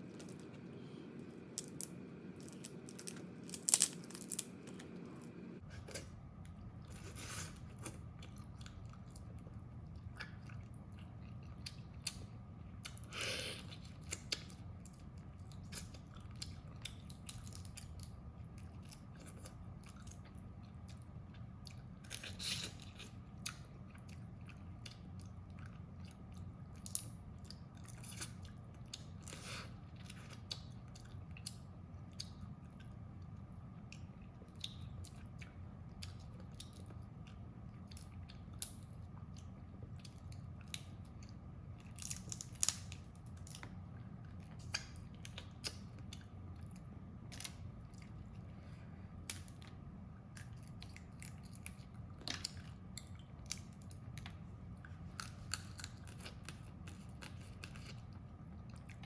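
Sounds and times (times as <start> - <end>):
crab shell cracking and chewing: 5.7 - 59.0.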